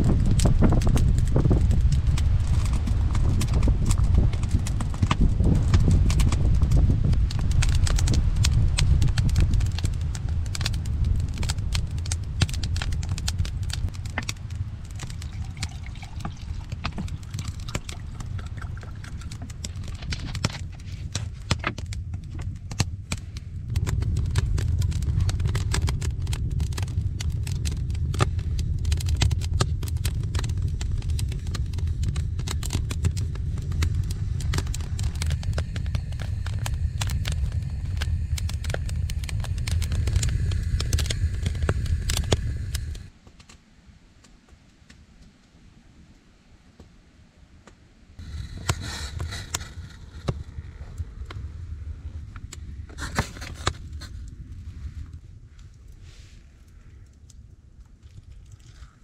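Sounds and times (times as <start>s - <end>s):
low rumble: 0.0s - 43.2s, 48.1s - 59.0s
wood fire crackling and popping: 0.0s - 43.6s, 48.2s - 59.0s.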